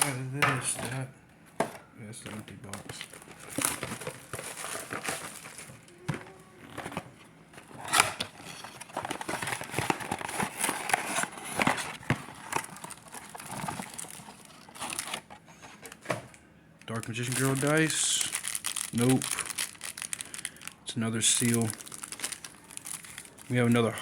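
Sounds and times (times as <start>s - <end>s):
foil wrappers crinkling and tearing: 2.3s - 7.0s, 7.6s - 16.1s, 16.8s - 24.0s.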